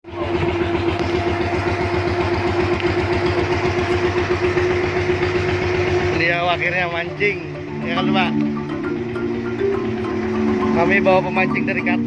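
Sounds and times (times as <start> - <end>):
boat engine throbbing: 0.1 - 12.0.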